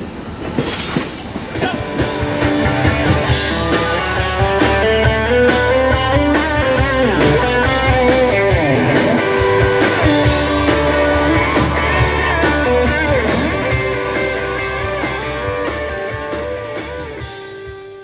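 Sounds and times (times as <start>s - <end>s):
live rock band playing: 1.6s - 18.0s.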